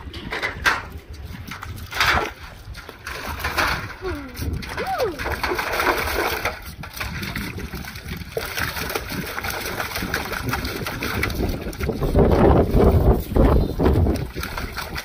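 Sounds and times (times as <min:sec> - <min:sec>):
wind rumble on microphone: 0:00.0 - 0:15.0
puppy splashing in water bowl: 0:00.7 - 0:15.0
water spattering onto concrete: 0:01.6 - 0:15.0.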